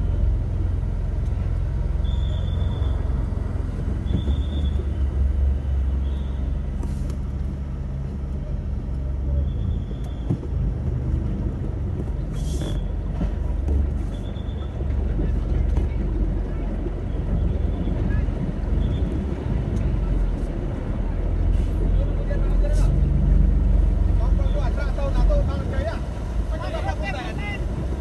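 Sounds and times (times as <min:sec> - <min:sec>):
trucks rumbling through floodwater: 0:00.0 - 0:28.0.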